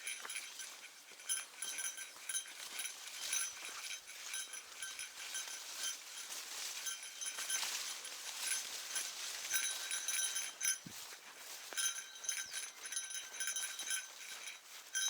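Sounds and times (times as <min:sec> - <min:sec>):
small bell jingling: 0:00.0 - 0:15.0.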